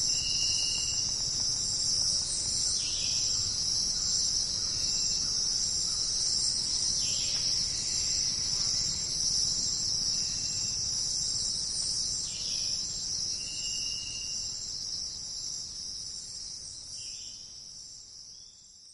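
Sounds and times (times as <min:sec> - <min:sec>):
shrill insect chorus: 0:00.0 - 0:18.7.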